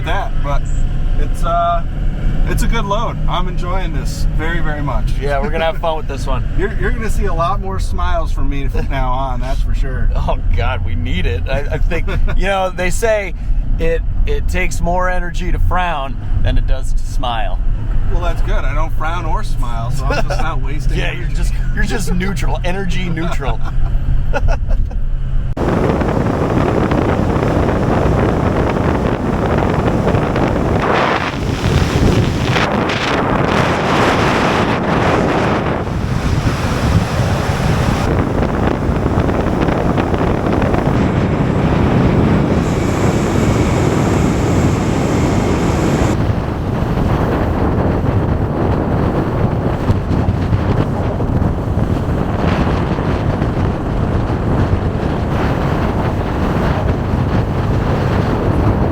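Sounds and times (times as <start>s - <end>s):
road noise rumble: 0.0s - 58.9s
wind rushing over microphone: 0.0s - 58.9s.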